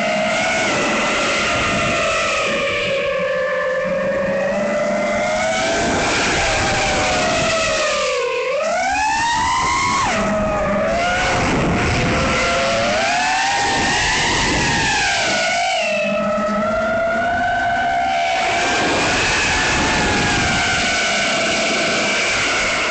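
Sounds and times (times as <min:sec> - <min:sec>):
quadcopter motors whining: 0:00.0 - 0:03.2, 0:03.8 - 0:22.9.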